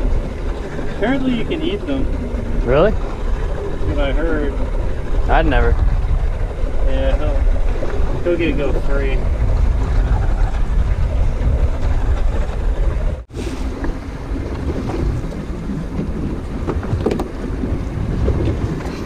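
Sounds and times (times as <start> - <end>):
choppy sea against boat hull: 0.0 - 19.0
wind buffeting microphone: 0.0 - 19.0.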